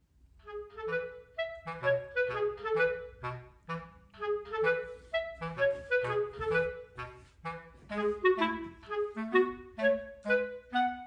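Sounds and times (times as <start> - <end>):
bouncy woodwind melody: 0.4 - 11.0.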